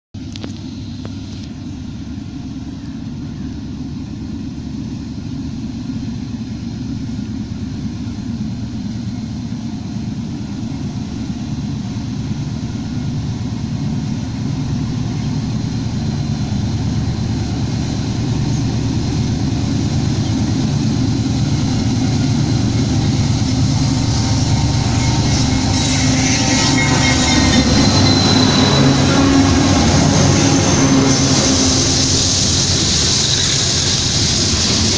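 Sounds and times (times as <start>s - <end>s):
diesel locomotive engine throbbing: 0.2s - 34.9s
train wheels on rails: 0.2s - 34.9s.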